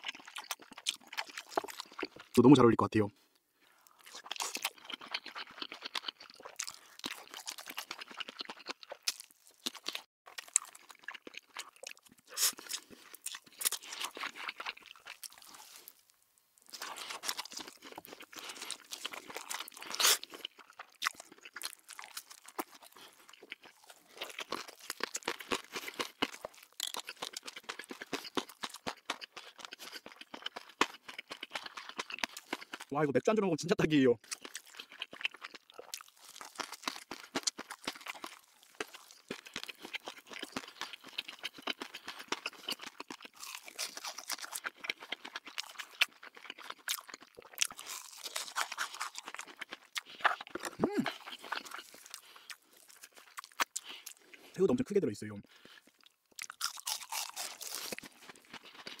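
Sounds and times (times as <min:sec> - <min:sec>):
person crunching fried food: 0:00.0 - 0:02.4, 0:03.6 - 0:32.9, 0:34.2 - 0:54.6, 0:55.5 - 0:59.0.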